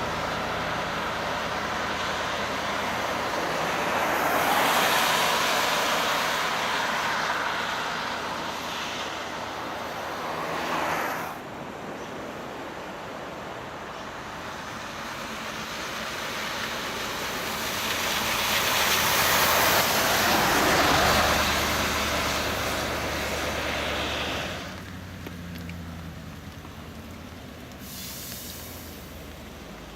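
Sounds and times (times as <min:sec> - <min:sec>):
vehicles passing: 0:00.0 - 0:29.9.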